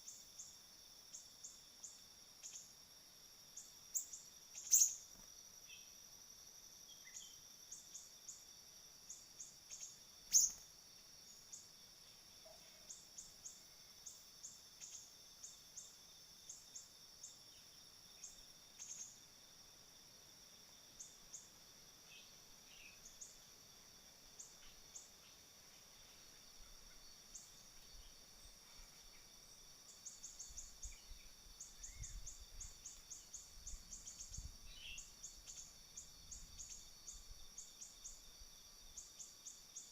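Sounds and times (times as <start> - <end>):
insect drone: 0.0 - 39.9.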